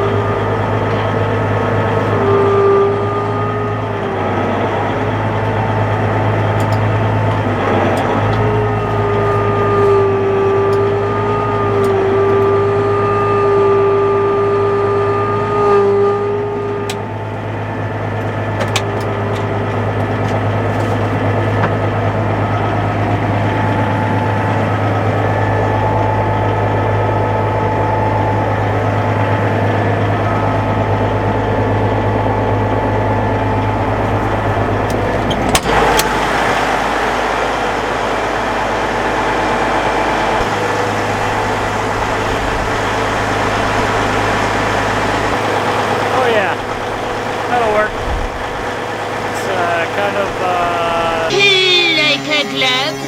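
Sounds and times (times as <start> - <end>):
high whine: 0.0 - 53.0
tractor diesel engine running: 0.0 - 53.0.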